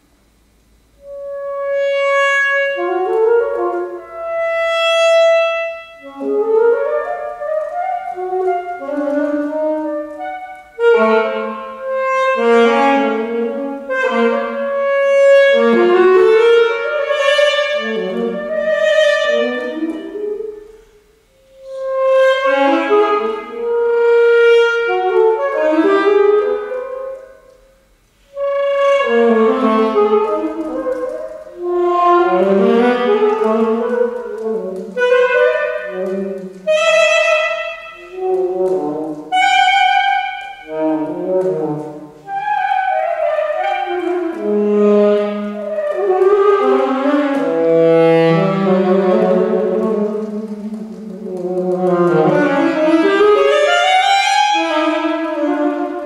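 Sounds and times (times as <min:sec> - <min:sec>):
solo saxophone melody: 0:00.8 - 0:56.0.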